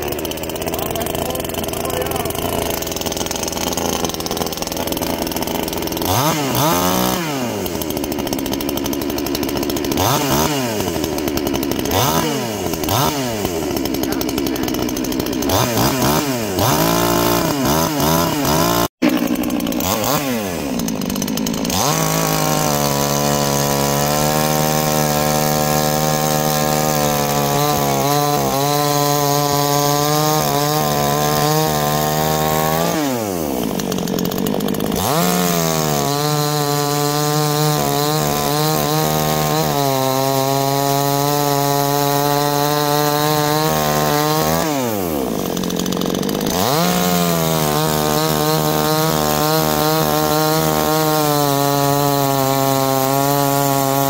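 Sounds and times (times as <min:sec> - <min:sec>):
chainsaw cutting into log: 0:00.0 - 0:54.0
chainsaw engine revving: 0:00.0 - 0:54.0.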